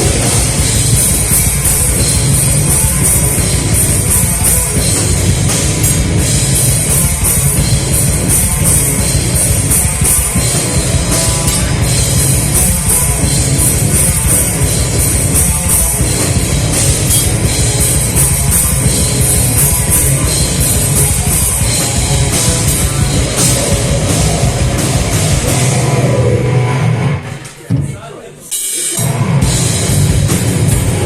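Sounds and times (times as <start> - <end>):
drum kit: 0.0 - 31.0
live heavy rock band: 0.0 - 31.0.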